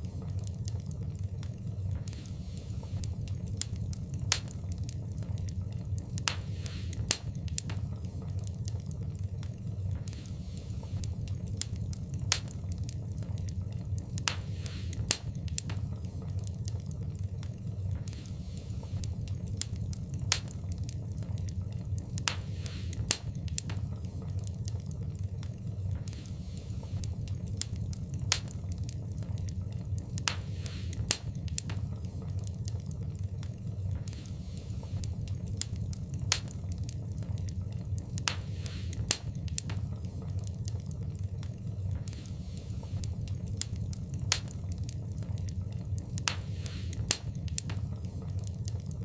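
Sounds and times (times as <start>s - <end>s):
fire rumbling: 0.0s - 49.0s
wood fire crackles and pops: 0.0s - 49.0s.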